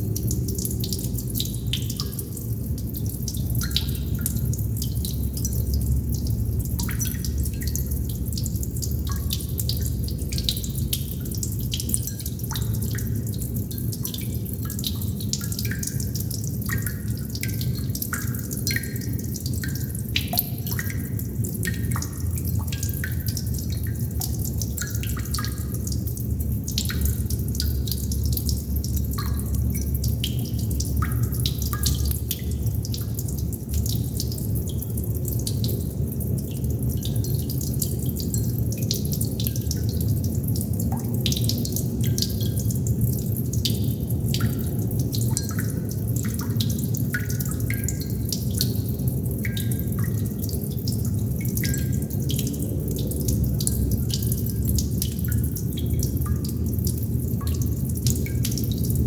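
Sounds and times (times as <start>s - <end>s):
water droplets dripping: 0.0s - 59.0s.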